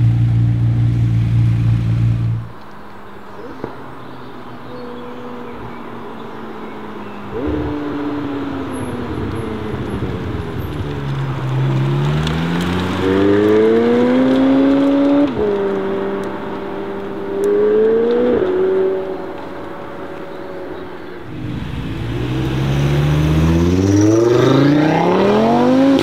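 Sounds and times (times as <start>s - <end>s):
car engine accelerating: 3.5s - 26.0s.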